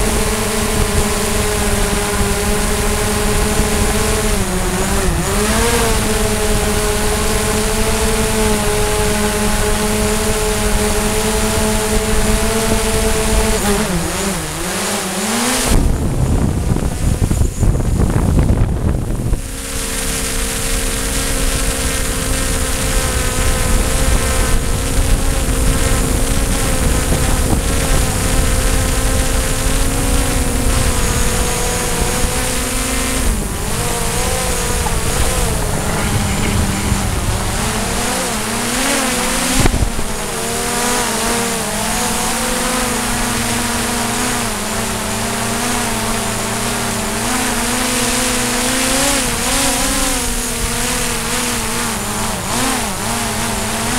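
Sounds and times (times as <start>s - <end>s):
drone propellers whining: 0.0s - 28.4s, 29.5s - 53.9s.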